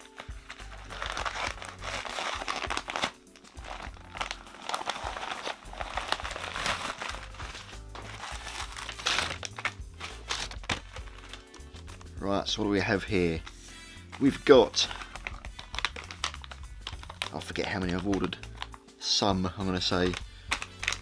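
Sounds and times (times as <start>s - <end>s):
plastic bag tearing: 0.0s - 12.1s, 14.1s - 18.7s, 19.9s - 21.0s
plastic packaging crinkling: 0.0s - 12.2s, 13.4s - 18.8s, 19.8s - 21.0s.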